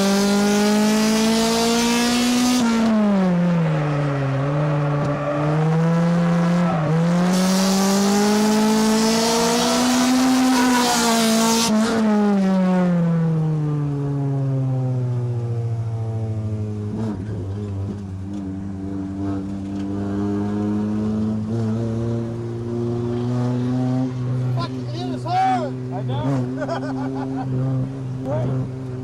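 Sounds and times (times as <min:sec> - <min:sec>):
race car engine: 0:00.0 - 0:29.0.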